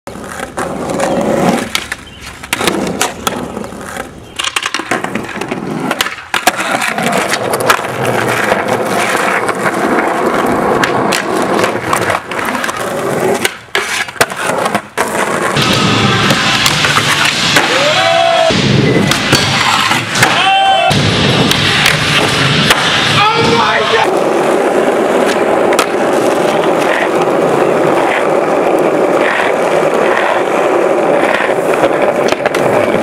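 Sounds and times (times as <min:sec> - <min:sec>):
skateboard popping and landing: 0:00.1 - 0:33.0
skateboard wheels rolling: 0:00.1 - 0:33.0.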